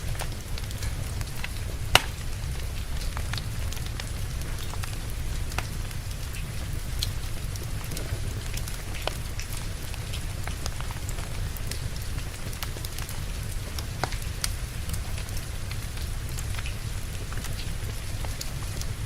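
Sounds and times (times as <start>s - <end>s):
log fire crackling: 0.0s - 19.0s
steady rain hiss: 0.0s - 19.0s.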